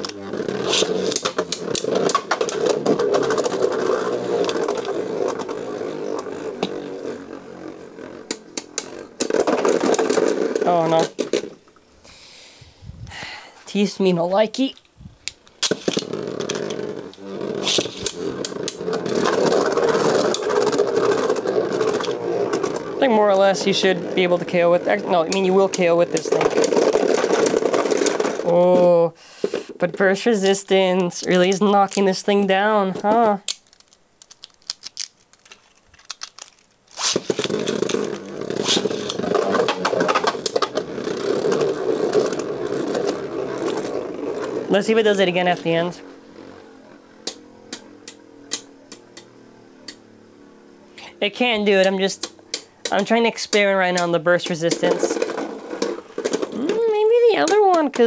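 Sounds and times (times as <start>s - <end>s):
spinning tops whirring: 0.0s - 11.8s, 15.3s - 29.0s, 36.9s - 58.0s.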